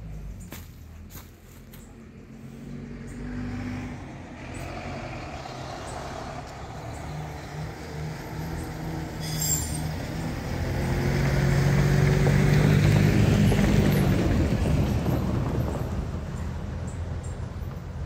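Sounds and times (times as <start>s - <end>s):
heavy vehicle driving past: 2.2s - 18.0s.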